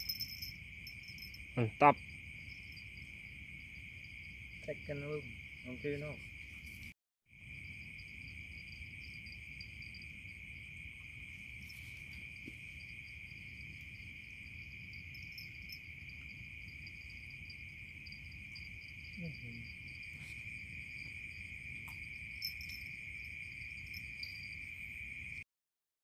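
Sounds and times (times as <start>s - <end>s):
crickets trilling: 0.0s - 25.4s
pulsing insect chirp: 0.0s - 25.4s.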